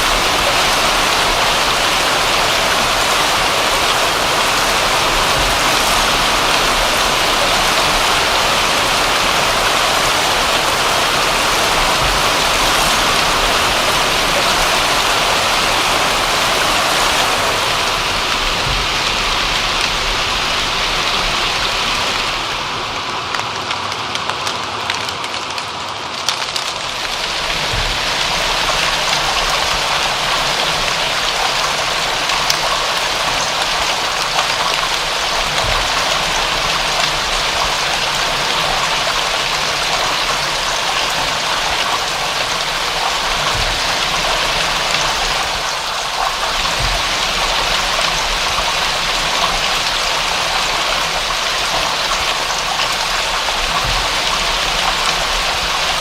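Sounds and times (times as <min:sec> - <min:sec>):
raindrops ticking: 0:00.0 - 0:56.0
steady rain hiss: 0:00.0 - 0:56.0.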